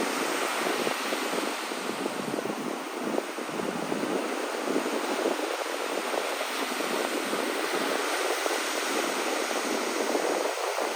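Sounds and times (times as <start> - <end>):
sea waves on shore: 0.0 - 10.9.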